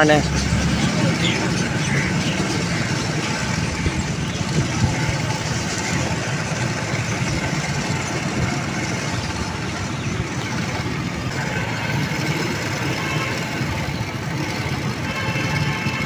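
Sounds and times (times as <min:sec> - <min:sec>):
street noise rumble with hiss: 0:00.0 - 0:16.0.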